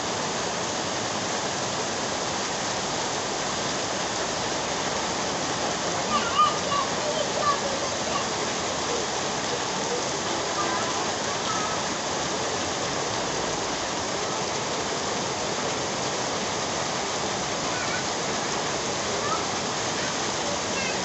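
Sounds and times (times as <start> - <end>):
fast river rushing: 0.0 - 21.0
heavy rain on pavement: 0.0 - 21.0.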